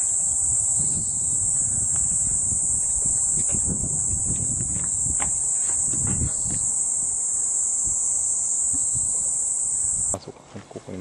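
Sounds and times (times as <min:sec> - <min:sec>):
high-pitched insect shrill: 0:00.0 - 0:10.2.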